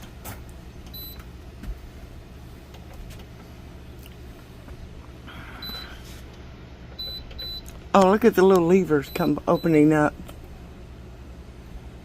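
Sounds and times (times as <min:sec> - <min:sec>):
air conditioner electronic beep: 0:00.0 - 0:11.7
air conditioner low hum: 0:00.0 - 0:12.0.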